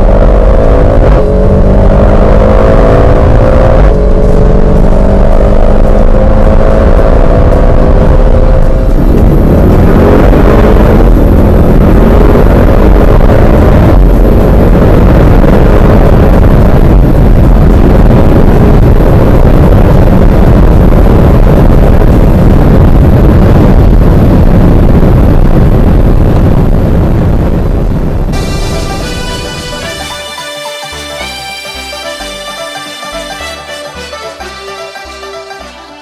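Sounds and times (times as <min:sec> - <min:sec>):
car engine accelerating: 0:00.0 - 0:36.0
wind and road noise: 0:00.0 - 0:36.0.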